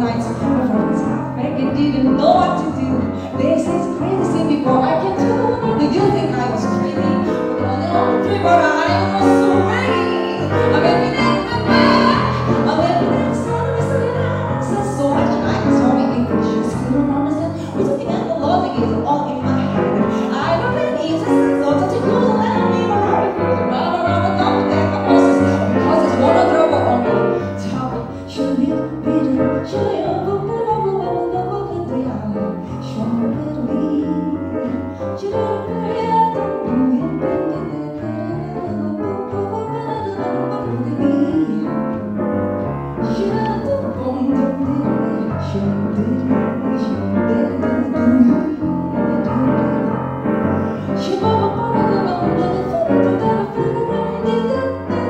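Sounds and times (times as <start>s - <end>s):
piano accompaniment: 0.0s - 55.0s
woman singing jazz: 0.0s - 55.0s.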